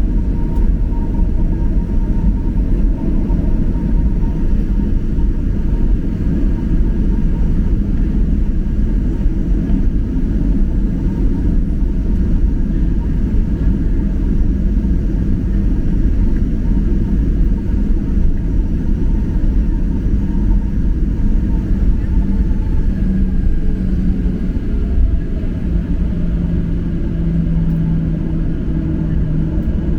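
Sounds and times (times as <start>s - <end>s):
airliner cabin rumble: 0.0s - 29.9s
faint steady whine: 0.0s - 29.9s.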